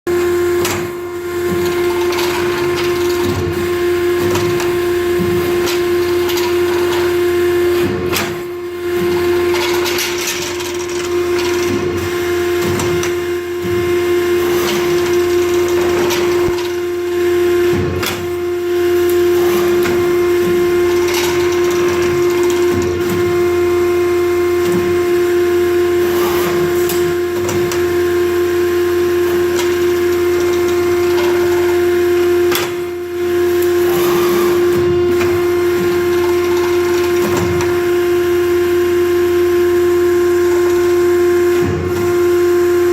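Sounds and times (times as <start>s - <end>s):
machine tone: 0.1s - 42.9s.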